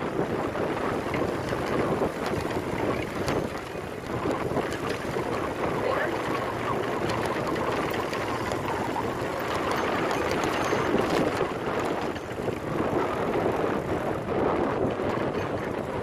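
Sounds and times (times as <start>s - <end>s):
bike rattles: 0.0s - 16.0s
bike tyre road noise: 0.0s - 16.0s
wind buffeting microphone: 0.0s - 16.0s.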